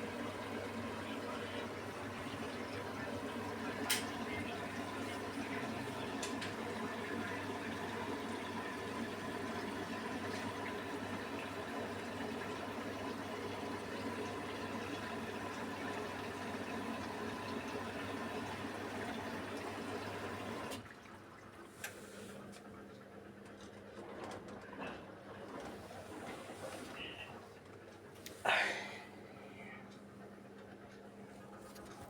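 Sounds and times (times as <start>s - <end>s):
water filling washing machine: 0.0s - 29.5s.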